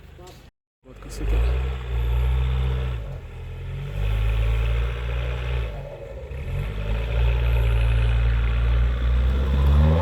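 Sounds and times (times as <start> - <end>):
engine revving hard: 1.1 - 10.0.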